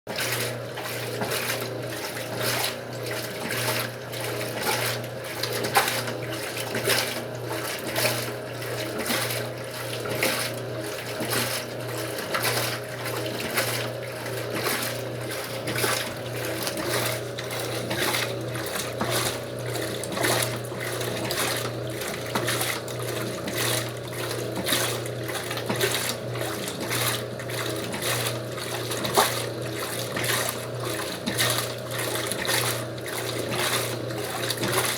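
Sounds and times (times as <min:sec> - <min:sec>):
washing machine motor hum: 0:00.1 - 0:34.9
water and clothes sloshing: 0:00.1 - 0:34.9.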